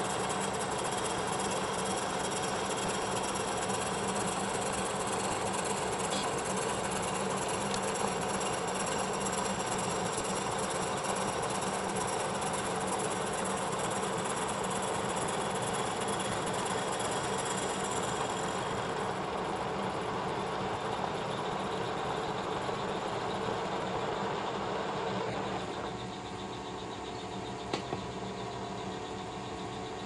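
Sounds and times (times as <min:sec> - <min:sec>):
milling machine cutting metal: 0:00.0 - 0:25.8.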